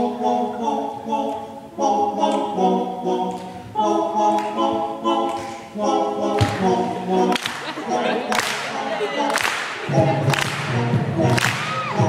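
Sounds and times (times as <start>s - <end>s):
male backing voices singing chords: 0.0s - 12.0s.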